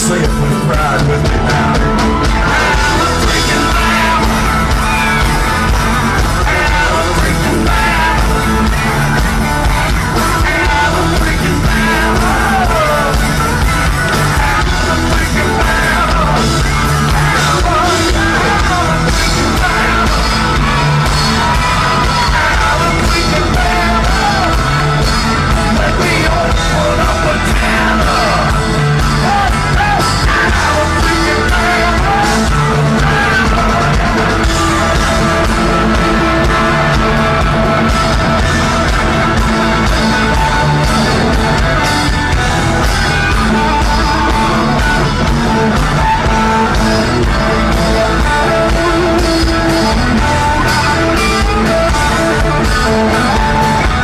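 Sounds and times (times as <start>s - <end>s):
audience shouts: 0.0s - 54.0s
bass: 0.0s - 54.0s
drums: 0.0s - 54.0s
electric guitar: 0.0s - 54.0s
male lead vocal: 0.0s - 54.0s.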